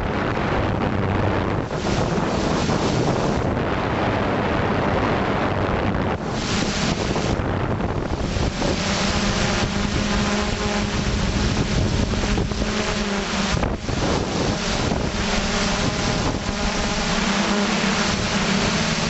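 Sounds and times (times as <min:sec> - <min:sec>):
drone motors humming: 0:00.0 - 0:19.0
wind buffeting microphone: 0:00.0 - 0:19.0.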